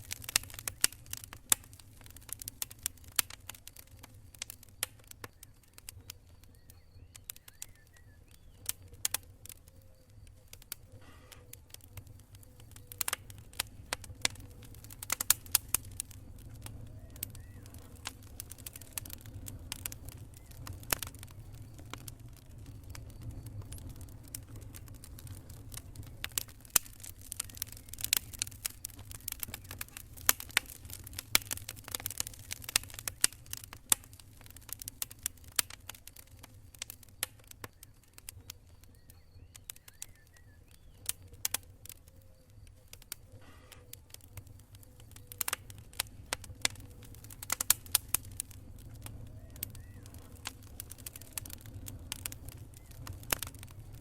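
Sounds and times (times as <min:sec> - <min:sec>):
campfire crackling: 0:00.0 - 0:54.0
fire pops and snaps: 0:00.0 - 0:54.0.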